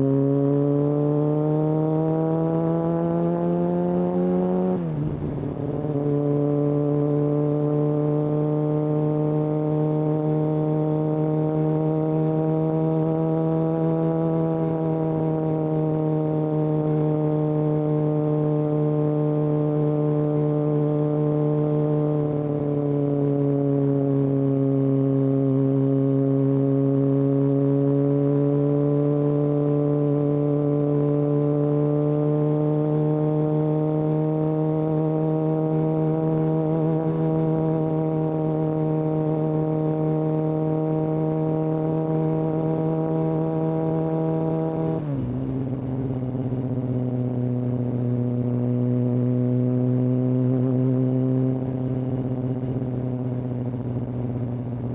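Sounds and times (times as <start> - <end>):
motorcycle engine under throttle: 0.0 - 54.9.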